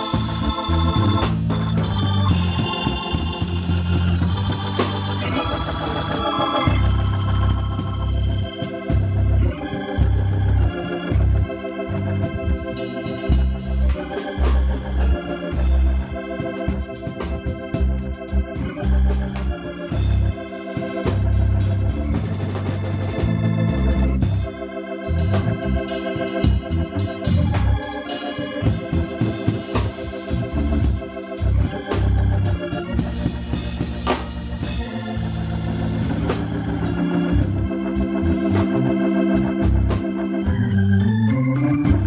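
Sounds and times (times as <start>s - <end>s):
organ playing gospel music: 0.0s - 42.0s.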